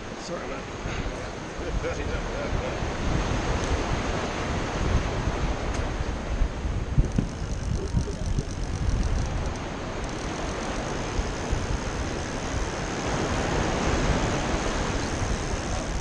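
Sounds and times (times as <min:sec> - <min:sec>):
sea waves washing: 0:00.0 - 0:16.0
wind buffeting microphone: 0:00.7 - 0:16.0.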